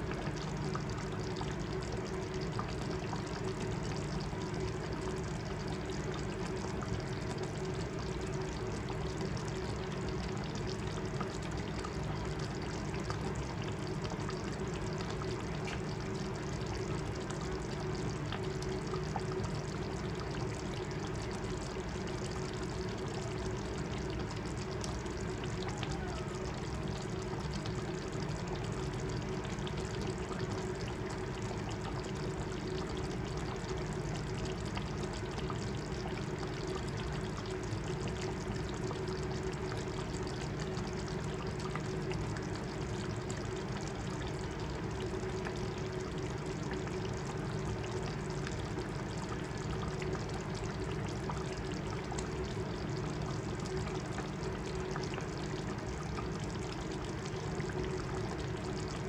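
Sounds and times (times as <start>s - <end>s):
faint steady hum: 0.0s - 59.0s
pot simmering with bubbling: 0.0s - 59.0s.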